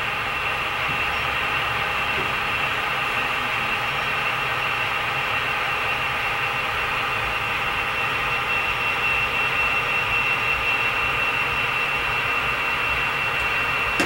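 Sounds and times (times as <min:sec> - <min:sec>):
model train humming and whining: 0:00.0 - 0:14.0.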